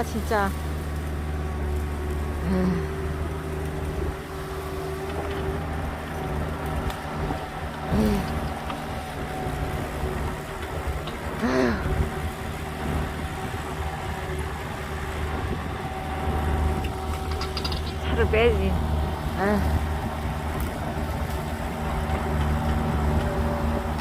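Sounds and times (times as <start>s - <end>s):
excavator engine idling: 0.0s - 24.0s.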